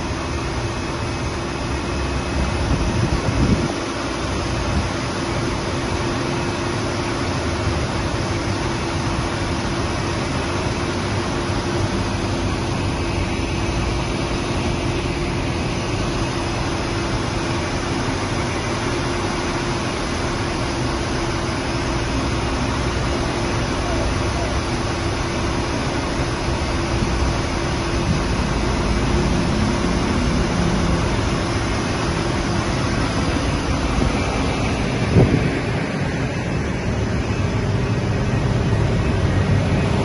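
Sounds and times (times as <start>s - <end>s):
diesel engine humming: 0.0s - 40.0s.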